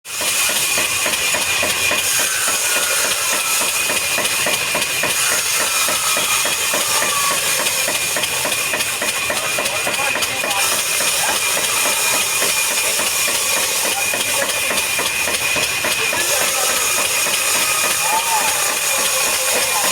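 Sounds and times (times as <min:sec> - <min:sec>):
woodworking machine whining: 0:00.1 - 0:19.9
loud hissing: 0:00.3 - 0:19.9
rapid regular knocking: 0:00.3 - 0:19.9.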